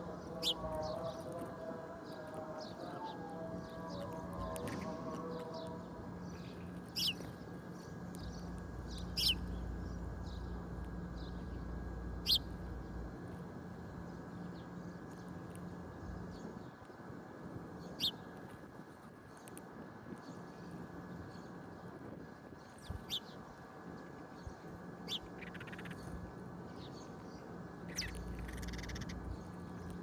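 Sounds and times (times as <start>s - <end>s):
small birds chirping: 0.0s - 13.3s, 17.8s - 18.6s, 19.2s - 30.0s
steady low hum: 0.0s - 30.0s.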